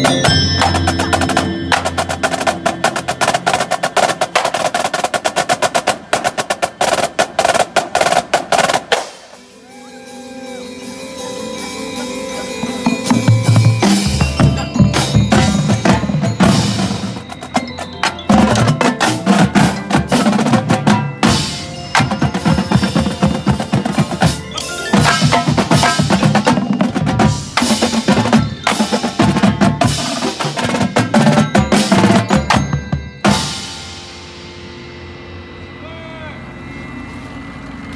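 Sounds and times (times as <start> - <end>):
marching drumline playing: 0.0 - 9.5, 12.3 - 34.2.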